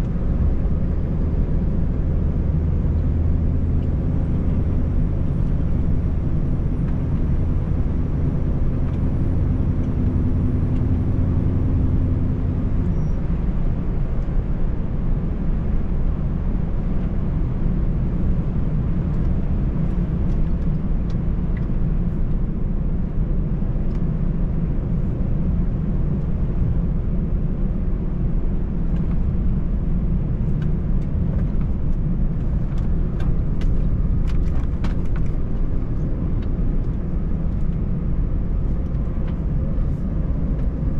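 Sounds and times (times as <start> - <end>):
truck engine and tyres droning: 0.0 - 40.9.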